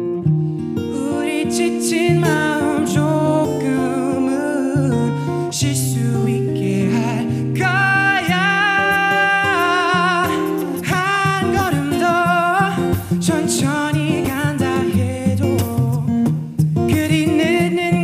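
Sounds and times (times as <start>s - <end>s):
instrumental backing track: 0.0s - 18.0s
man singing a slow ballad: 0.8s - 18.0s.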